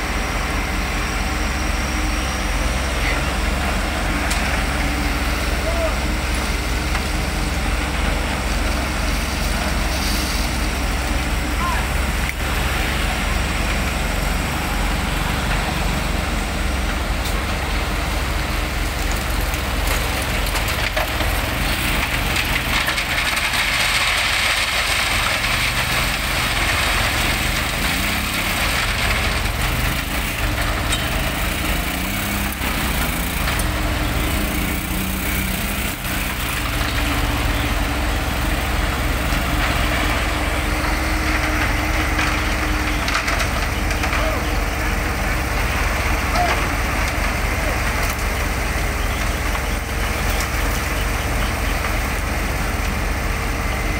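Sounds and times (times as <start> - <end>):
diesel engines running: 0.0 - 53.9
gravel pouring into hopper: 0.0 - 53.9.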